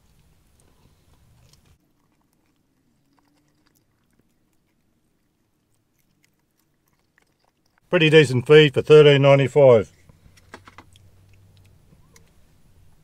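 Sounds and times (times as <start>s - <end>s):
faint chewing: 0.0s - 7.9s, 9.8s - 13.0s
faint low hum: 0.0s - 13.0s.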